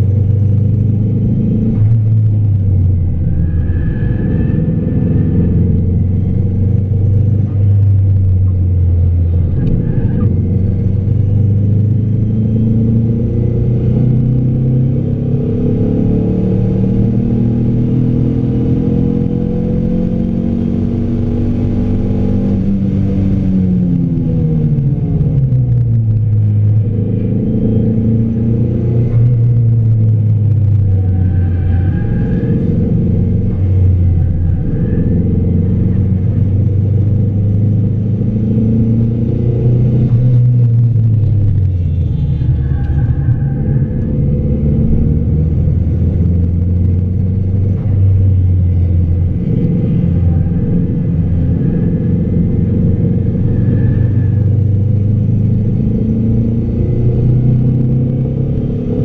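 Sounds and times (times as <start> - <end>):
car engine revving inside cabin: 0.0 - 59.0.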